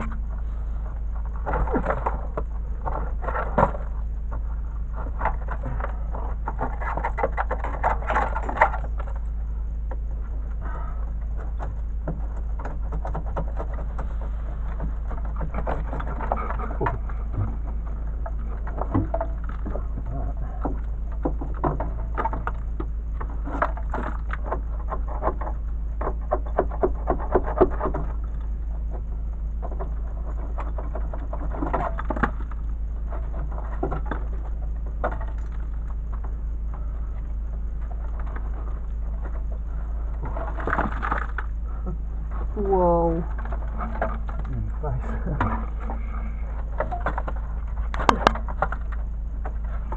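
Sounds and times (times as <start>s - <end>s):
scraping and rustling: 0.0s - 49.9s
steady low hum: 0.0s - 49.9s.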